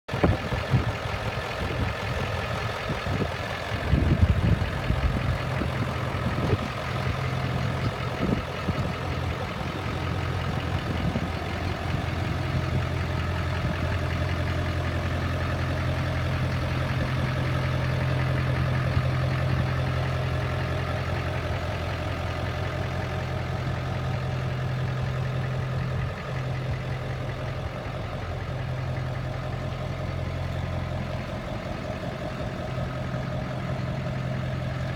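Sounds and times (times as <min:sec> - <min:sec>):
truck engine idling: 0:00.1 - 0:34.9.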